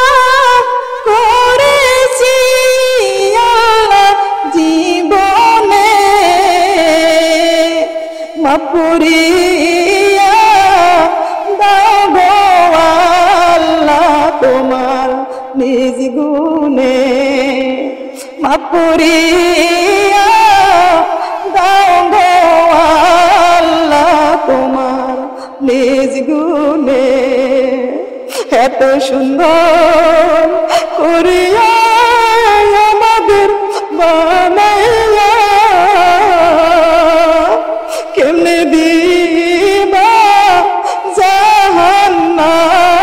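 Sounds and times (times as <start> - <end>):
woman singing a slow chant: 0.0 - 43.0.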